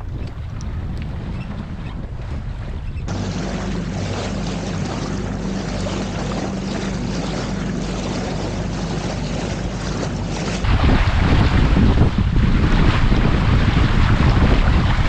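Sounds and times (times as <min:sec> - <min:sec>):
low steady hum: 0:00.0 - 0:15.0
wind and water rushing along hull: 0:00.0 - 0:15.0.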